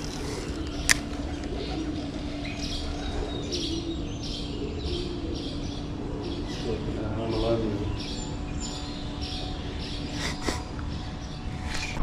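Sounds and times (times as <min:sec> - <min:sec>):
bird calling: 0:00.0 - 0:12.0
steady low hum: 0:00.0 - 0:12.0.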